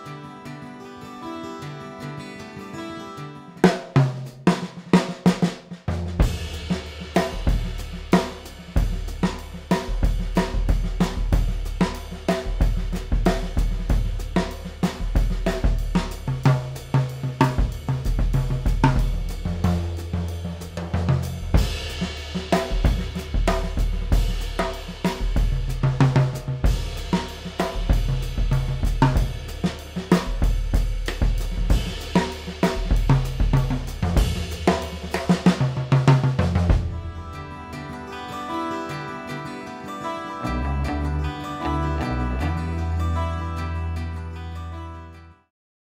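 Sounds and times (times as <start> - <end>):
drum kit groove: 3.6 - 44.3.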